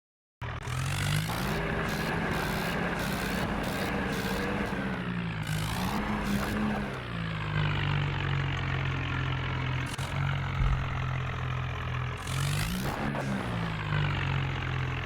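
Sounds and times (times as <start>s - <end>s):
diesel engine running: 0.4s - 15.0s.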